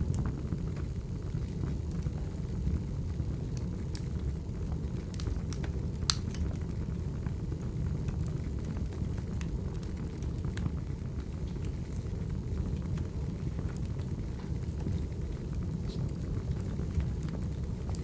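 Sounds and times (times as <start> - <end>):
fire popping and snapping: 0.0 - 18.0
low rumble of flames: 0.0 - 18.0.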